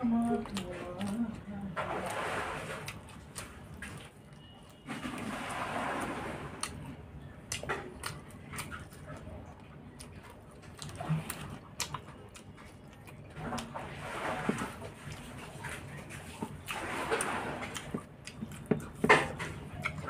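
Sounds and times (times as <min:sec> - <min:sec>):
person chewing food: 0:00.1 - 0:20.0.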